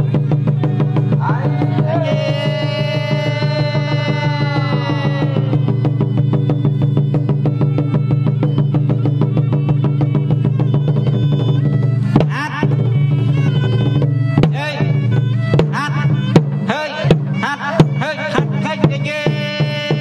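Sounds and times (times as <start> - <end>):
ensemble playing: 0.0 - 18.6
drums quick beat: 0.0 - 20.0.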